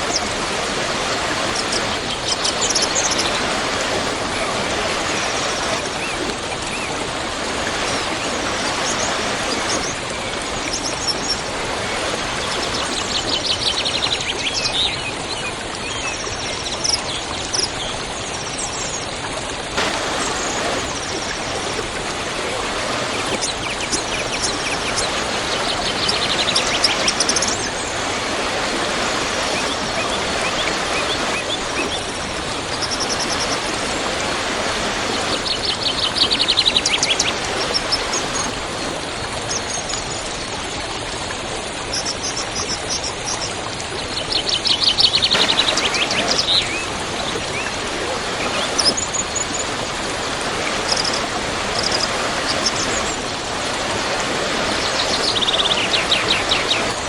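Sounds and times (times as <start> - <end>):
birds chirping: 0.0 - 19.1, 19.7 - 40.0, 44.4 - 57.0
waterfall rushing: 0.0 - 41.8, 45.1 - 57.0.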